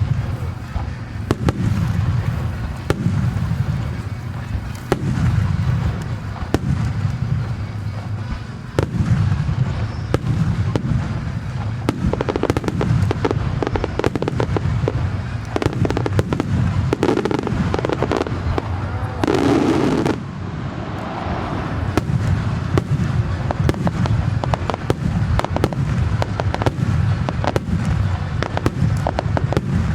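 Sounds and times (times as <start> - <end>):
fireworks booming and crackling: 0.0 - 29.9.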